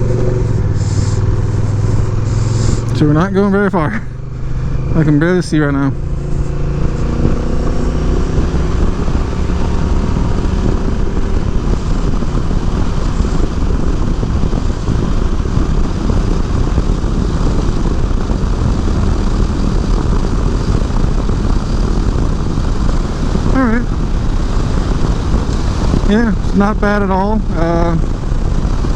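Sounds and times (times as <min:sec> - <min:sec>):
motorcycle engine running: 0:00.0 - 0:28.9
wind rushing over microphone: 0:00.0 - 0:28.9.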